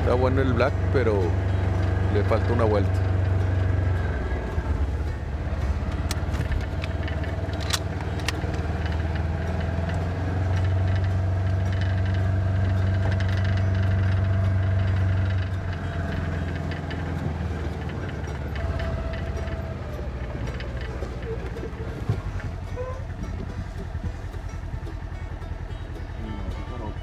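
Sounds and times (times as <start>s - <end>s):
utility vehicle engine running: 0.0s - 27.0s.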